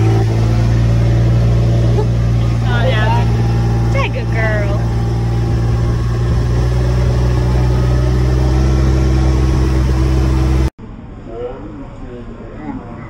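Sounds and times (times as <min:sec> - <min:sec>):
utility vehicle engine running: 0:00.0 - 0:10.8.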